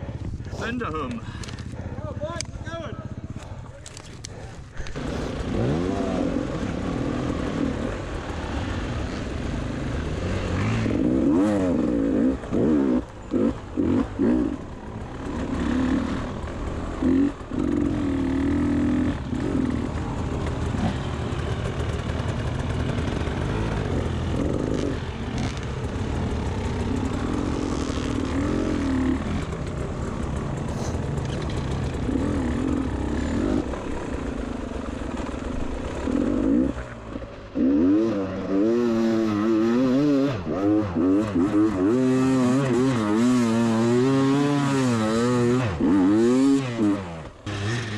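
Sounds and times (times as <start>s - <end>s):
two-stroke motorbike engine revving: 0.0s - 47.9s.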